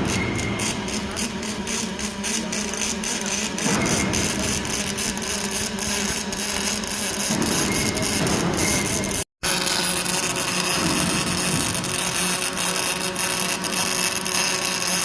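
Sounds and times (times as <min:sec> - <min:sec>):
machine hum: 0:00.0 - 0:14.8
welding arc crackling: 0:00.0 - 0:15.0.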